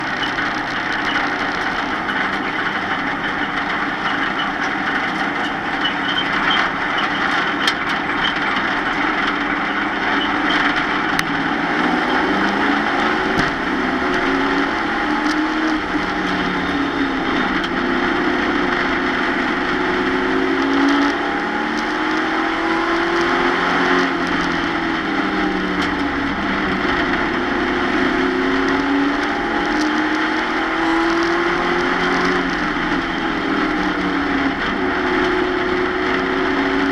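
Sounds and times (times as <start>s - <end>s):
cab rattles and ticks: 0.0s - 36.9s
truck engine running steadily: 0.0s - 36.9s.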